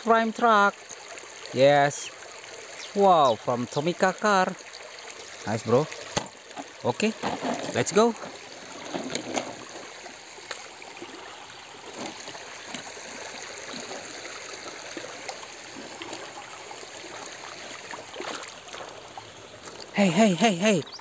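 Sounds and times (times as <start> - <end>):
stream trickling over stones: 0.0 - 21.0.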